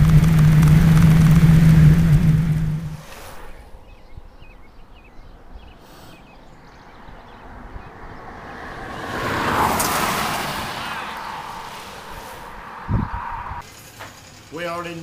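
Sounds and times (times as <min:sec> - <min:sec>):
car passing: 0:00.0 - 0:05.6, 0:06.2 - 0:14.0.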